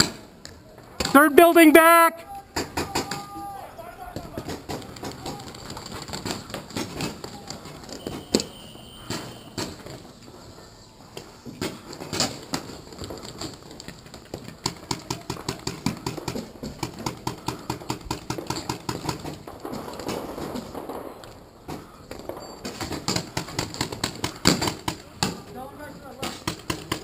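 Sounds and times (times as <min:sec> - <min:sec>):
running footsteps: 0:03.9 - 0:27.0.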